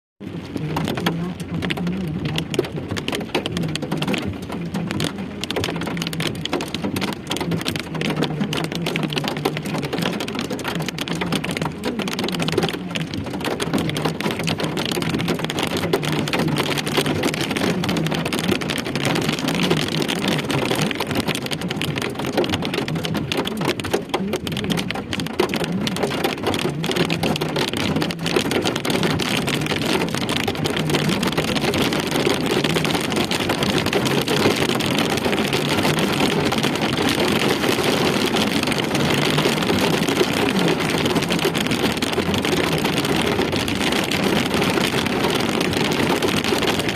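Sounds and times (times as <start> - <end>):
rain splashing on hard surfaces: 0.2 - 46.9.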